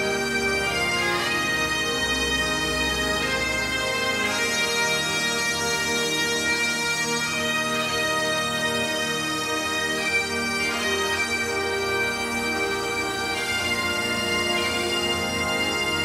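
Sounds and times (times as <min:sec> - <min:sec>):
bagpipes playing a melody: 0:00.0 - 0:16.0.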